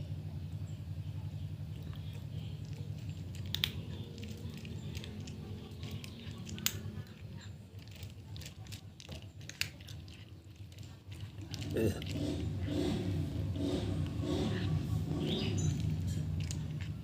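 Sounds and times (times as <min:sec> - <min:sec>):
cat chewing food: 0:01.6 - 0:17.0
sharp crunching clicks: 0:01.7 - 0:17.0.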